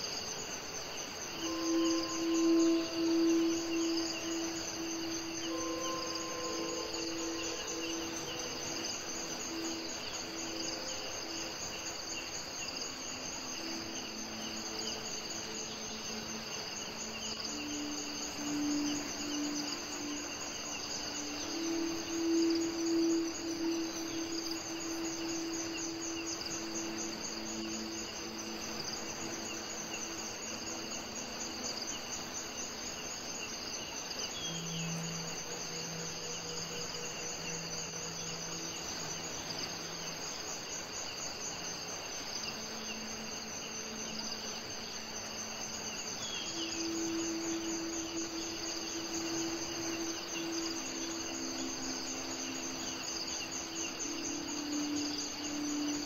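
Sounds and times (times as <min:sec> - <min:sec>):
crickets trilling: 0:00.0 - 0:56.0
even hiss: 0:00.0 - 0:56.0
low sustained tones: 0:00.0 - 0:56.0.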